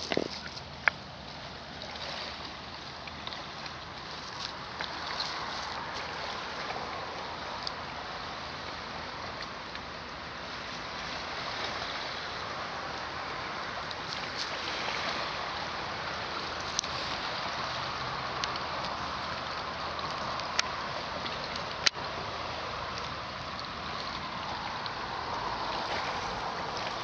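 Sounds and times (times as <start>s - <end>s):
waves lapping on stony shore: 0.0s - 27.0s.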